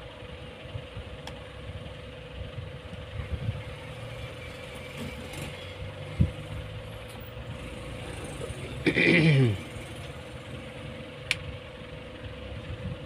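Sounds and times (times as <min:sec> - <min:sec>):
mechanical hum with low rumble: 0:00.0 - 0:13.0.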